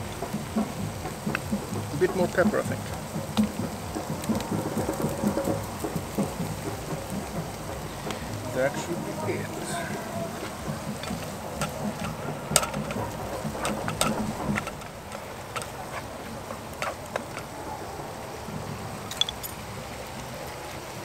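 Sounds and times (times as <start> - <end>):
sauce simmering: 0.0 - 19.1.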